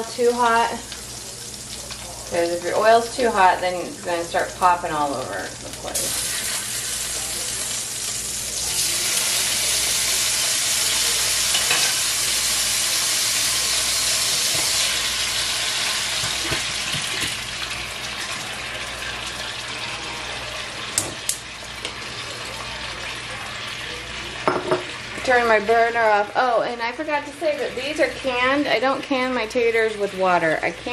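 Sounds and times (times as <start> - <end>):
potatoes sizzling in hot oil: 0.0 - 30.9.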